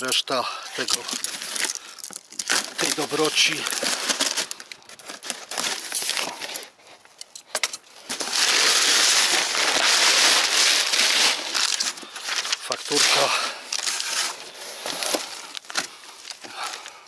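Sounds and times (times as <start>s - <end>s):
packing paper crumpling: 0.6s - 6.8s, 8.0s - 17.0s.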